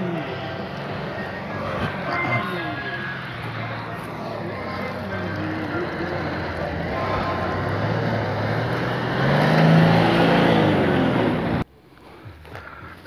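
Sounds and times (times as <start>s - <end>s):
suv engine revving: 0.0s - 11.7s.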